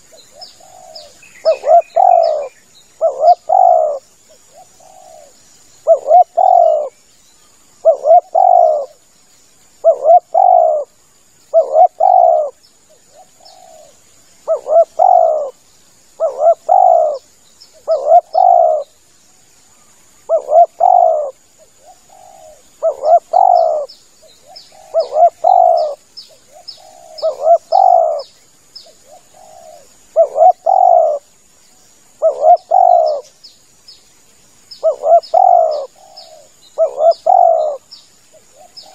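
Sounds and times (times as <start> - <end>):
dove cooing: 0.0 - 6.9, 7.8 - 9.0, 9.8 - 10.9, 11.5 - 15.6, 16.2 - 18.9, 20.2 - 31.3, 32.2 - 33.3, 34.8 - 38.9.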